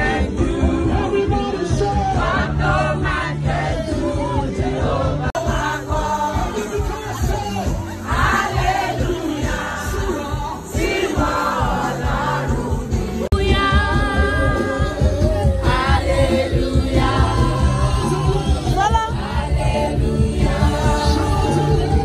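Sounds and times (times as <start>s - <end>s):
choir singing gospel style: 0.0s - 22.0s
music with steady beat: 0.0s - 22.0s.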